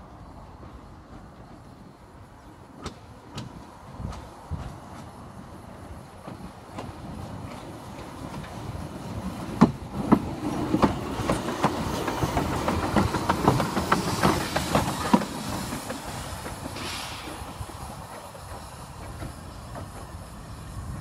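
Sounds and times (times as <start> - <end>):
steam locomotive passing: 0.0 - 21.0
wheels clicking over rail joints: 0.2 - 21.0
hiss of steam: 3.3 - 21.0.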